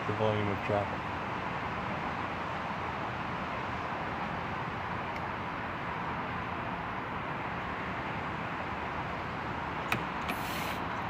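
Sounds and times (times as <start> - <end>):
road traffic hiss: 0.0 - 11.0.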